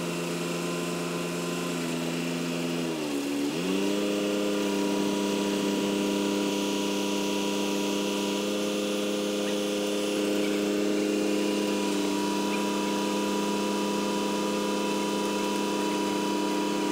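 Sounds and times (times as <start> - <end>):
large engine droning: 0.0 - 16.9.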